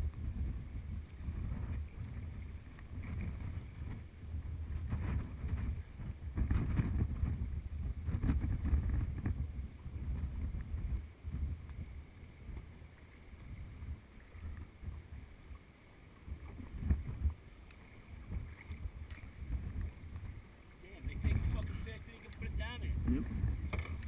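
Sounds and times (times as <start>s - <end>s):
wind buffeting microphone: 0.0s - 15.3s, 16.2s - 24.0s.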